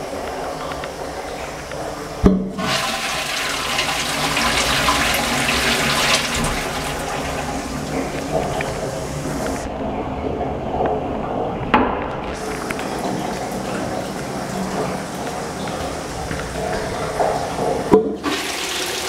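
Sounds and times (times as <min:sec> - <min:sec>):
toilet flush water rushing: 0:01.0 - 0:10.6, 0:12.2 - 0:19.0.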